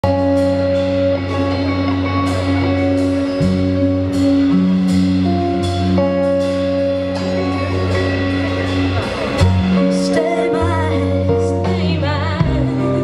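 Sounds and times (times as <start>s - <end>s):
electric guitar and bass chords: 0.0s - 13.0s.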